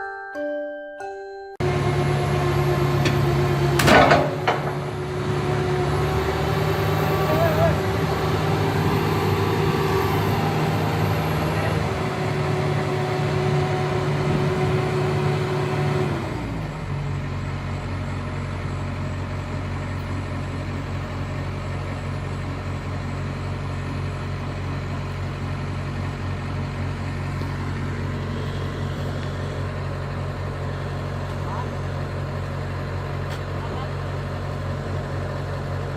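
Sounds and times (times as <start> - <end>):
high engine whine: 1.6 - 35.9
truck engine running: 1.6 - 35.9.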